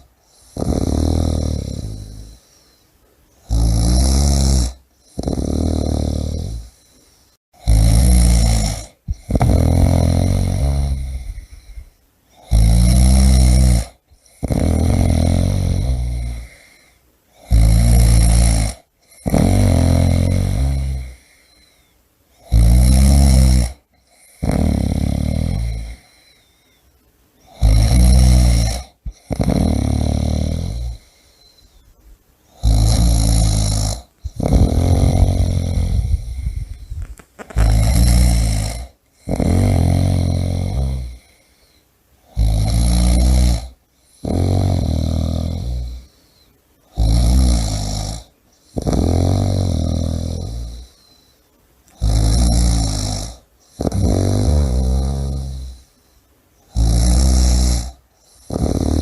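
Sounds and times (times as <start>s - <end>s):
person snoring loudly: 0.0s - 2.5s, 3.4s - 6.8s, 7.6s - 21.6s, 22.4s - 26.3s, 27.4s - 31.6s, 32.5s - 41.5s, 42.2s - 46.1s, 46.9s - 51.1s, 51.9s - 55.9s, 56.7s - 59.0s.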